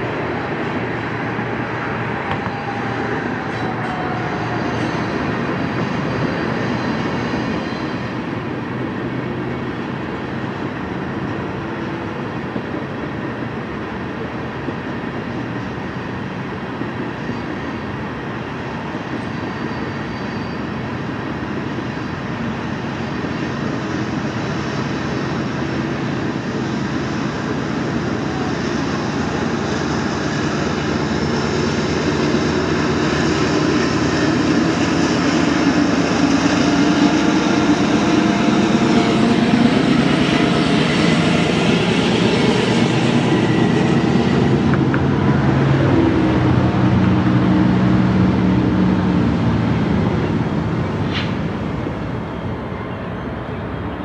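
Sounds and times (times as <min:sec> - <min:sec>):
diesel locomotive running: 0:00.0 - 0:54.0.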